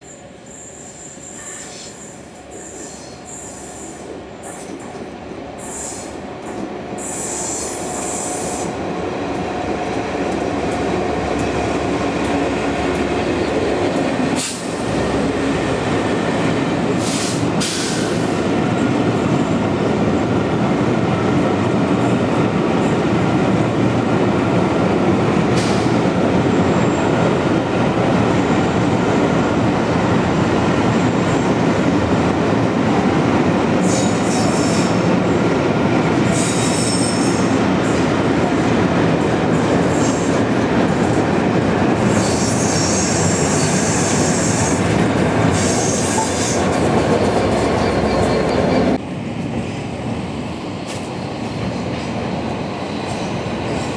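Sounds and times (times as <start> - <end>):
train wheels rumbling on rails: 0.3 - 53.9.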